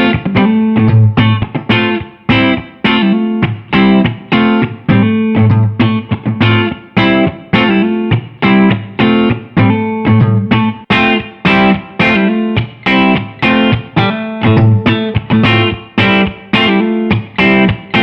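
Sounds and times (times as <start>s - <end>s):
electric guitar chord riff: 0.0s - 18.0s.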